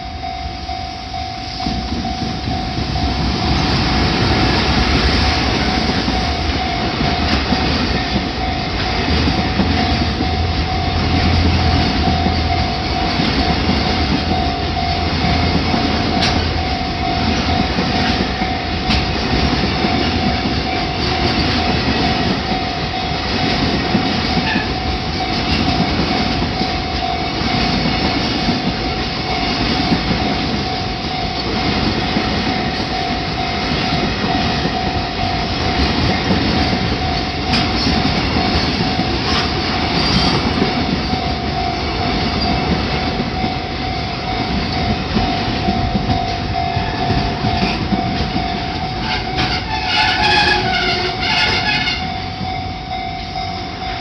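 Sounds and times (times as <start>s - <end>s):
steady high tone: 0.0s - 54.0s
train wheels clattering: 1.6s - 52.6s.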